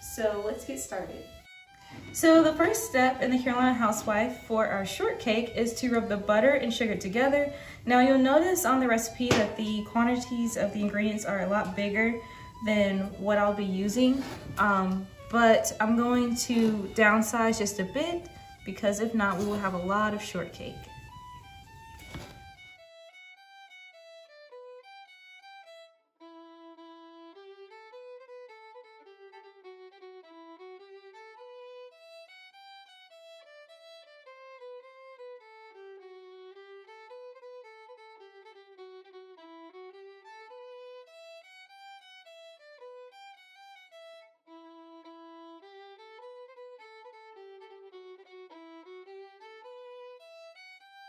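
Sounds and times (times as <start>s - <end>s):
violin melody: 0.0s - 51.0s.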